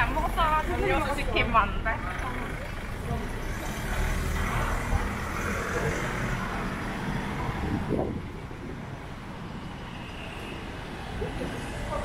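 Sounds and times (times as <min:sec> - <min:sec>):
city street ambience: 0:00.0 - 0:12.0.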